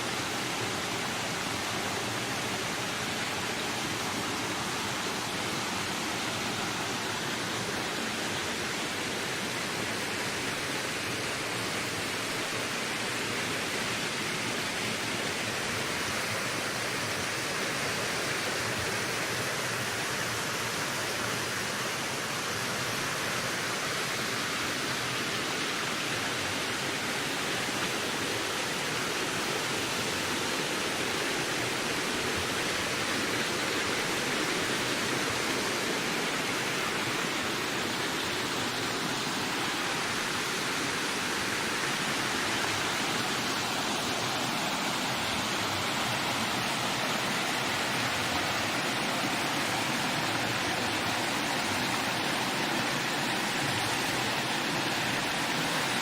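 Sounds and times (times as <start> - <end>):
wind through forest: 0.0 - 56.0.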